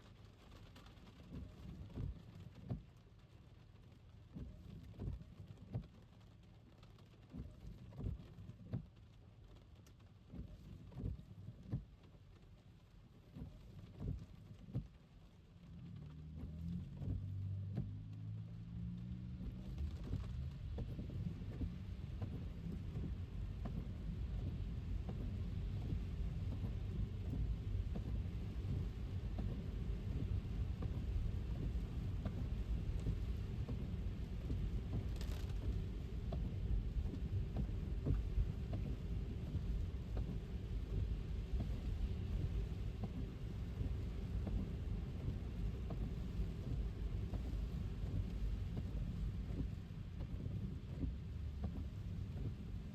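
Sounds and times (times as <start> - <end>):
rain hiss: 0.0 - 52.9
tyres rumbling on wet road: 0.0 - 52.9.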